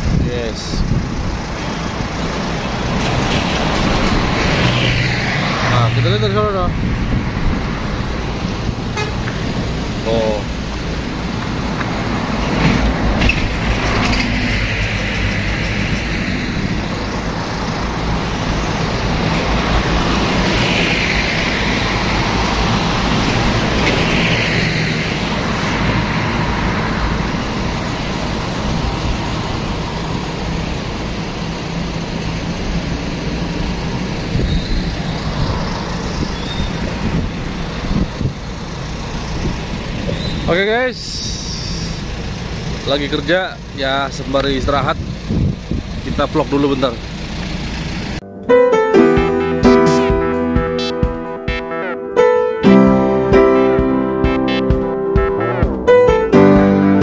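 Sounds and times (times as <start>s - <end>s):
buses rumbling past: 0.0s - 57.0s.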